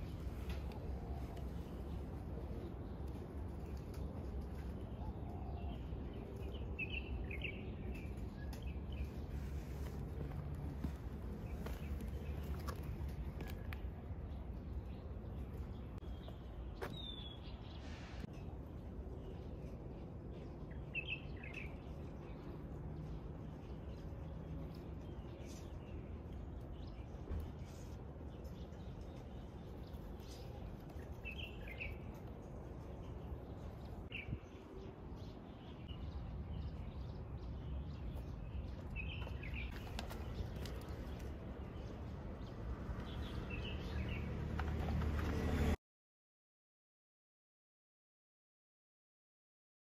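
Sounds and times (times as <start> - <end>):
bird chirping: 0.9 - 10.3, 11.4 - 44.4.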